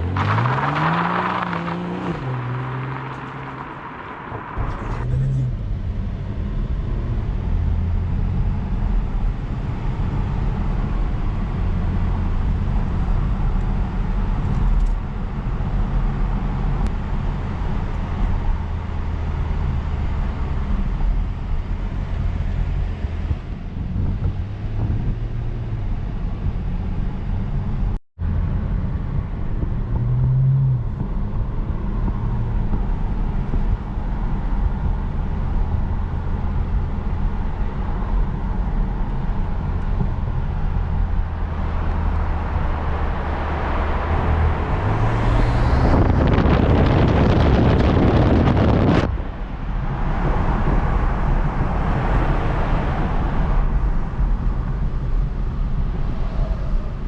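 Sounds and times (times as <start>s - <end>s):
car engine and road drone: 0.0s - 57.0s.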